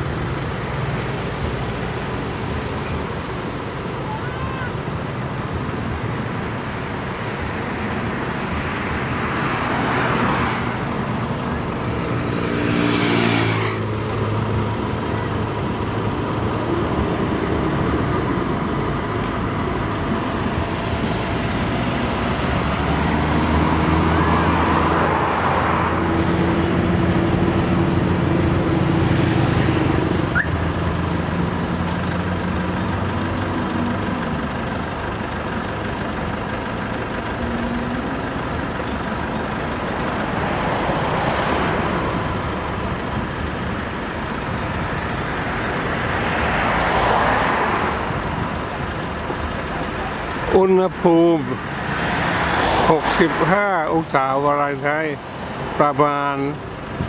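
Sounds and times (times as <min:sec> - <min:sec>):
cars passing: 0:00.0 - 0:57.0
heavy engine drone: 0:00.0 - 0:57.0.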